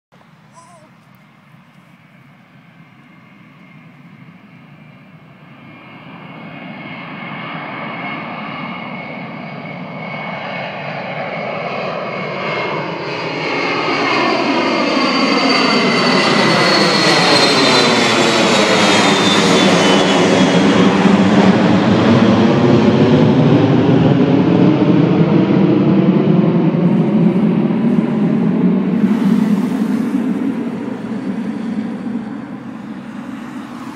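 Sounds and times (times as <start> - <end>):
jet passing overhead: 1.1 - 33.9.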